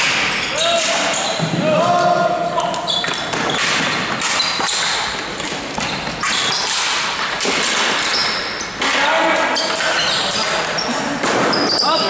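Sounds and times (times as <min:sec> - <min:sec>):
echoing hall noise: 0:00.0 - 0:12.0
hockey sticks and ball knocking: 0:00.0 - 0:12.0
shoes squeaking on floor: 0:00.3 - 0:12.0.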